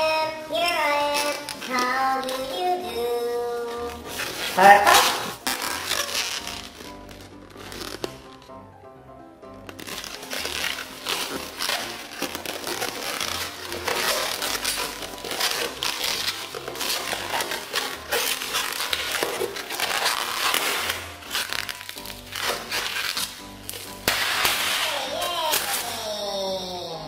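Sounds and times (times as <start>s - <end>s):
rubber balloons squeaking: 0.0s - 8.7s, 9.4s - 27.0s.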